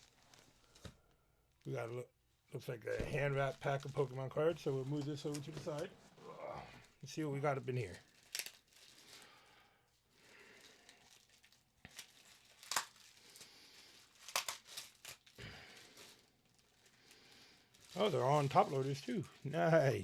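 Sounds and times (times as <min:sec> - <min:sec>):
packing material crinkling: 0:00.0 - 0:01.8, 0:02.7 - 0:20.0.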